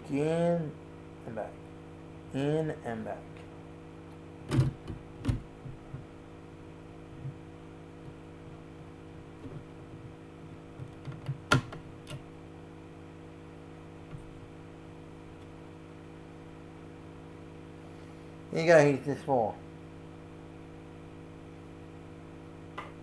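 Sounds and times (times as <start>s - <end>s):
electrical mains hum: 0.0s - 23.0s
faint high whine: 0.0s - 23.0s.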